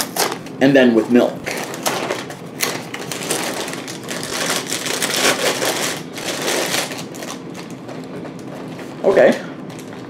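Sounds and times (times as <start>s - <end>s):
plastic bag crinkling: 1.1s - 10.0s.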